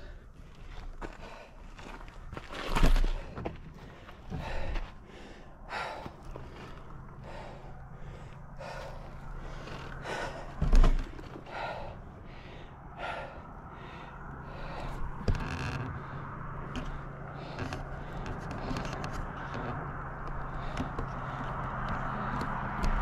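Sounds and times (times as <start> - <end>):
cyclist breathing hard: 0.0 - 23.0.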